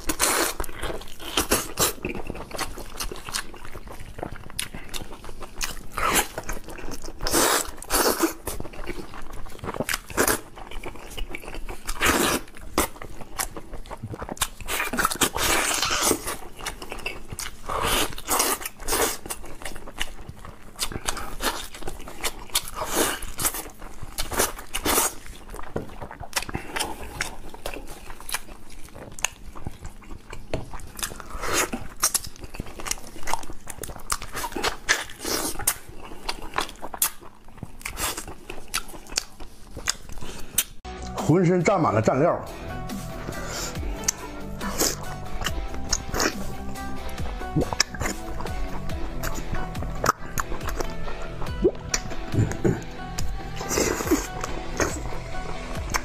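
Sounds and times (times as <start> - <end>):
person chewing: 0.0 - 41.2, 42.6 - 56.0.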